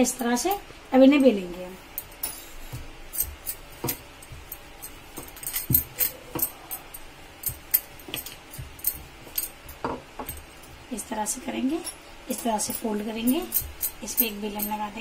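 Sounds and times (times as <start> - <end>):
glass bangles clinking: 1.2 - 10.8, 11.4 - 15.0.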